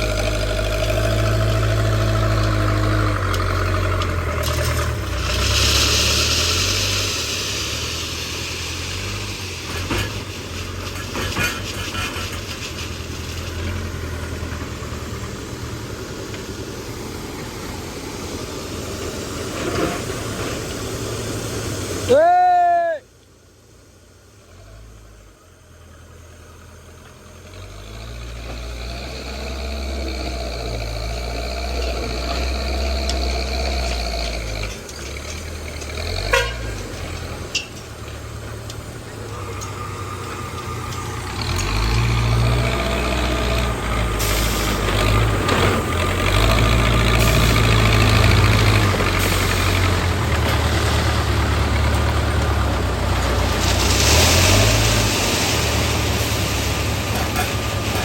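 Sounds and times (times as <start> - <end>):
diesel engine rumbling under load: 0.0 - 58.0.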